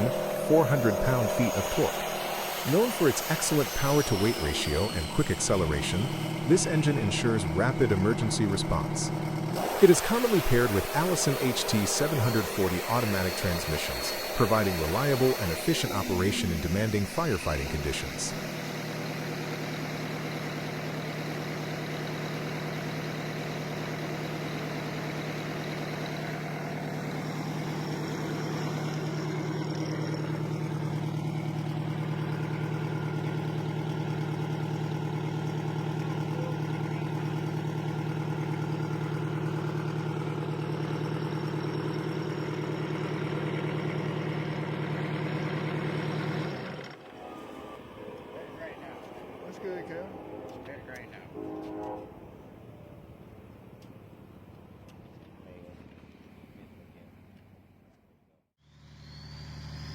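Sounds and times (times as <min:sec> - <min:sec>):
diesel engine idling: 0:00.0 - 0:51.4.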